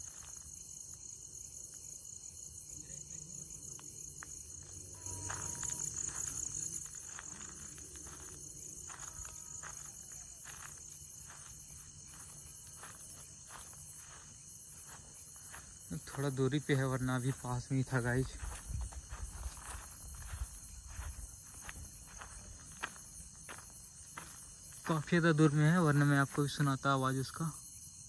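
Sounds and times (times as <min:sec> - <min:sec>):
footsteps on dirt path: 0:00.0 - 0:01.1, 0:03.6 - 0:26.7
crickets chirping: 0:00.0 - 0:28.0.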